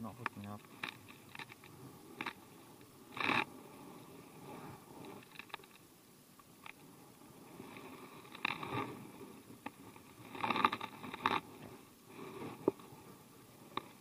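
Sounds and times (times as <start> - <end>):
fishing gear rustling: 0.6 - 5.9, 6.6 - 14.0.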